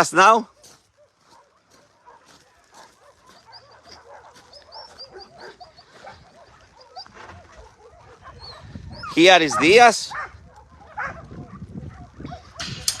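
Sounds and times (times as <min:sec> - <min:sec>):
dogs barking and whining: 0:00.5 - 0:13.0.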